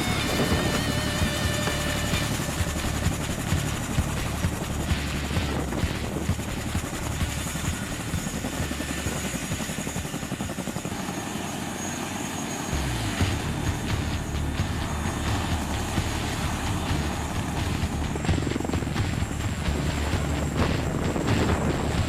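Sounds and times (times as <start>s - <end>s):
deep engine rumble: 0.0s - 9.3s, 12.7s - 22.0s
helicopter rotor beat: 0.0s - 22.0s.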